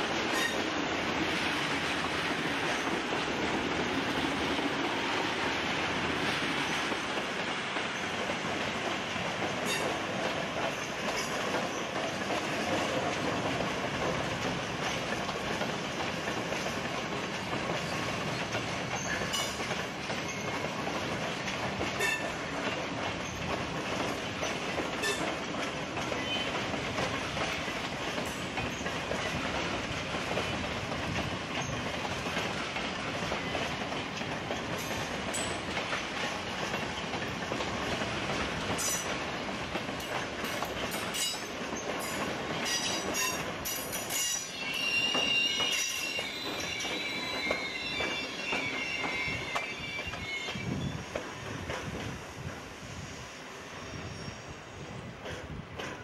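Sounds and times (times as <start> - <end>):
wheels clicking over rail joints: 0.0 - 52.2
train wheels rumbling on rail: 0.0 - 56.0.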